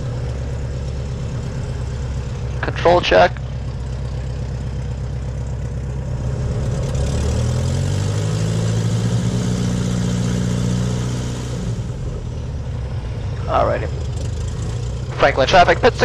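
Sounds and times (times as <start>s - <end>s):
propeller plane engine running: 0.0s - 16.0s.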